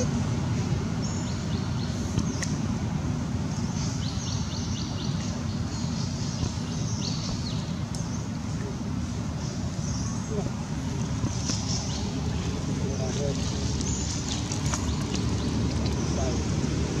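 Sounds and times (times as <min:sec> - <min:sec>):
small birds chirping: 0:00.0 - 0:02.7, 0:03.3 - 0:16.9.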